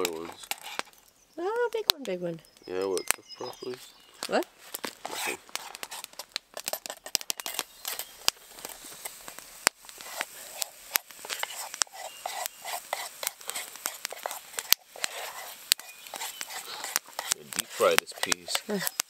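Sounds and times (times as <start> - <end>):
batter hissing in a frying pan: 0.0 - 19.0
campfire crackling and popping: 0.0 - 19.0.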